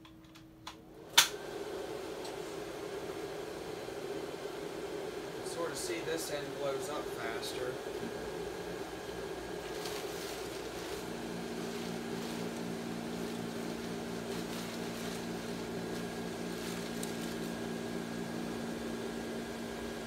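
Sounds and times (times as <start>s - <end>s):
blower fan motor hum: 0.0s - 20.0s.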